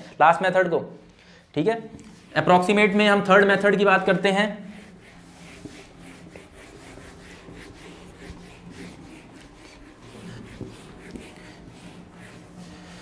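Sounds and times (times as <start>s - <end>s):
eraser rubbing on whiteboard: 2.2s - 13.0s.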